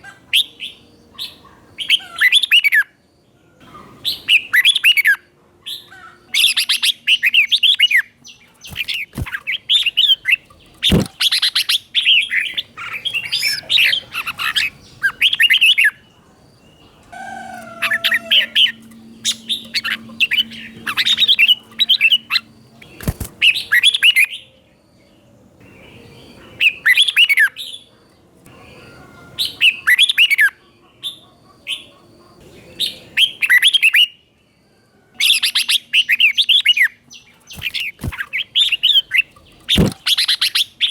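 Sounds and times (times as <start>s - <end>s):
bird singing warbled phrases: 0.0s - 34.3s, 35.2s - 40.9s.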